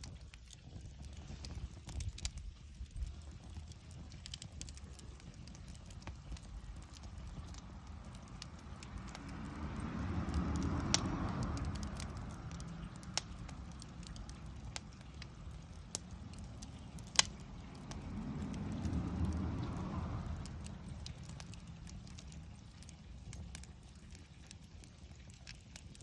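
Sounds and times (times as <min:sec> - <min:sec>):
wood bonfire crackling: 0:00.0 - 0:26.0
low rumble: 0:01.1 - 0:25.4.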